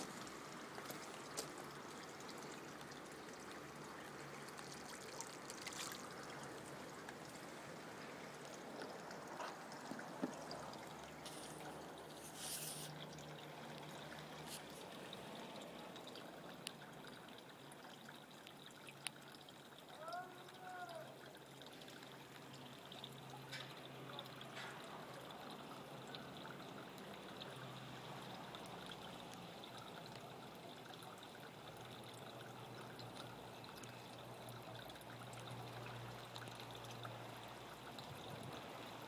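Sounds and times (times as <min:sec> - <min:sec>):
water trickling into pond: 0:00.0 - 0:39.0.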